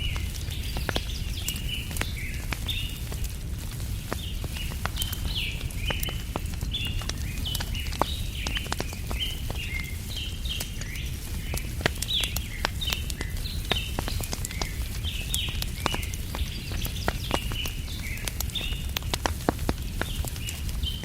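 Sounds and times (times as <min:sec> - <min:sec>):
birds chirping: 0:00.0 - 0:03.1, 0:04.1 - 0:21.0
wood fire crackling and popping: 0:00.0 - 0:21.0.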